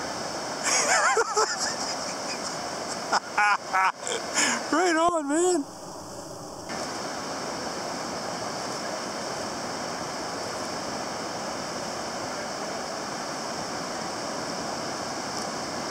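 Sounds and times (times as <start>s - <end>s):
surf rushing: 0.0s - 15.9s.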